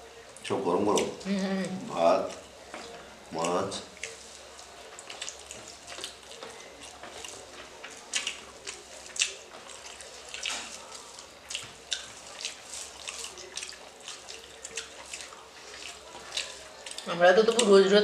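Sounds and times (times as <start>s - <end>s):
fingers mixing food on plates: 0.3s - 1.3s, 1.9s - 18.0s.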